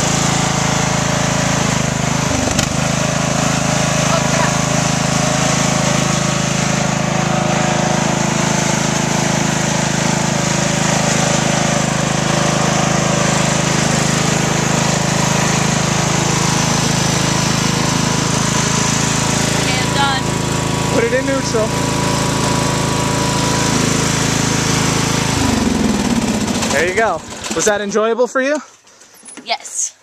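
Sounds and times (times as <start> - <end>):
lawnmower engine running: 0.0 - 29.4.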